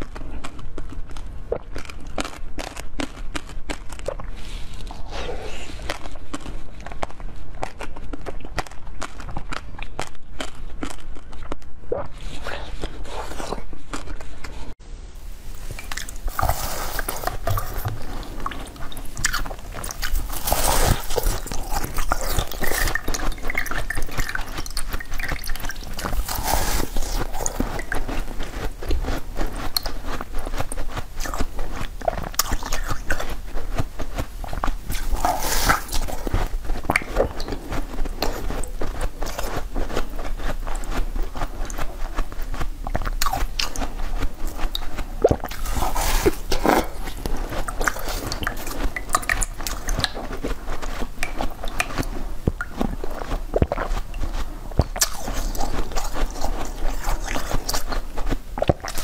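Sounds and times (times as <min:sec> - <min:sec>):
sucking and slurping frozen jelly: 0:00.0 - 0:59.0.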